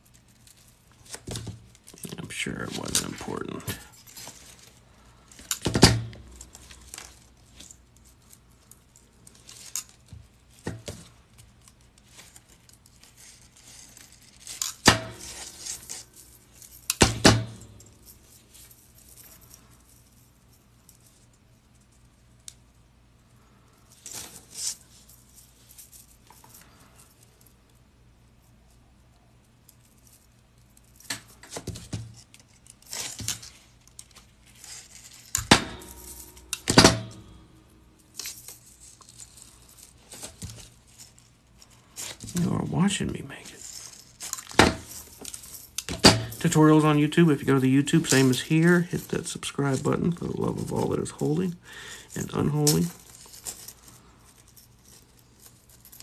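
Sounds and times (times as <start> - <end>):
metal rings jingling and clinking: 0.0 - 22.4, 23.7 - 27.7, 29.5 - 56.0.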